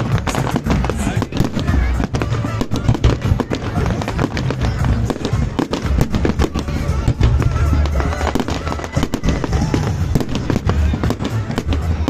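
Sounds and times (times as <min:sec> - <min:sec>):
fireworks bursting and crackling: 0:00.0 - 0:12.0
music playing: 0:00.0 - 0:12.0.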